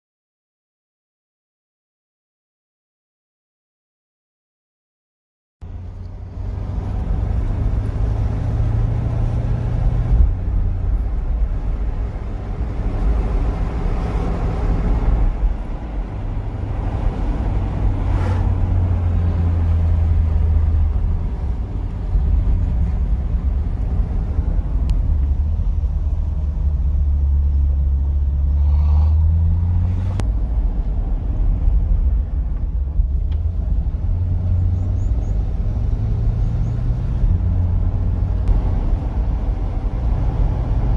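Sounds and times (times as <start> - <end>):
deep loud car exhaust: 5.6 - 40.9.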